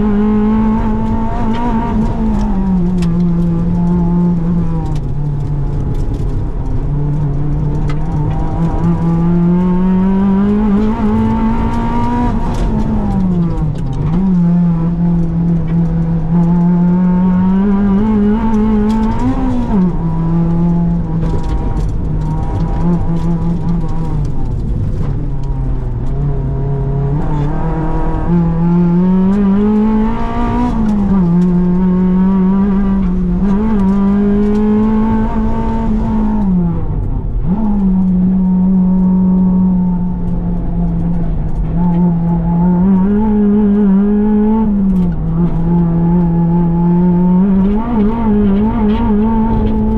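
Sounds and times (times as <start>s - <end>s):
car engine revving high: 0.0s - 49.9s.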